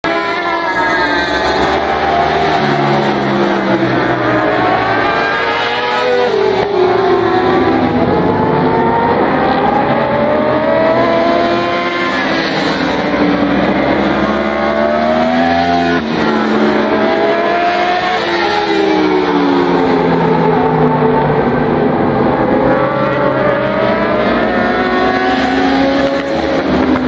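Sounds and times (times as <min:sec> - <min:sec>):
racing motorcycle engines passing: 0:00.1 - 0:27.0.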